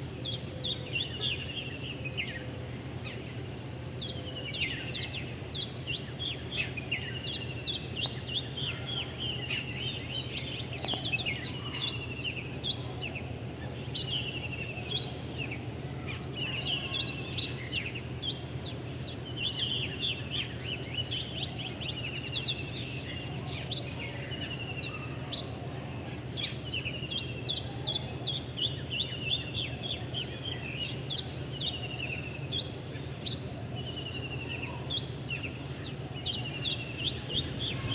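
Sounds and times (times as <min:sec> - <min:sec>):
small birds chirping: 0:00.0 - 0:37.9
steady low hum: 0:00.0 - 0:37.9.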